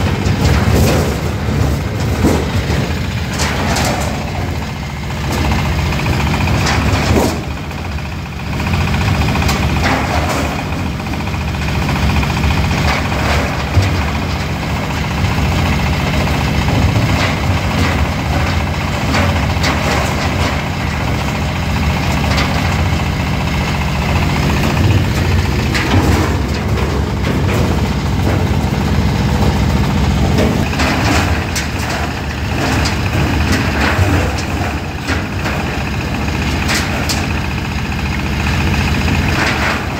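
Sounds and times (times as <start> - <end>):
diesel engine running: 0.0 - 39.9
thresher knocks and rattles: 0.0 - 39.9.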